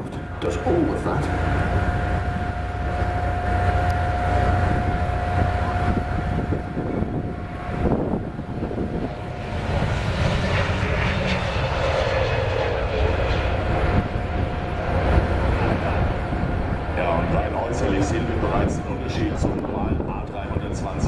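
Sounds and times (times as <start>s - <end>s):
jet airliner engines rumbling: 0.0s - 21.0s
jet engine whining tone: 0.0s - 21.0s.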